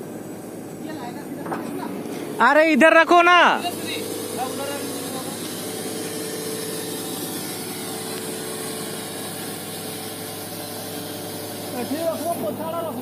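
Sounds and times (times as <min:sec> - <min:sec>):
large diesel engine running: 0:00.0 - 0:13.0.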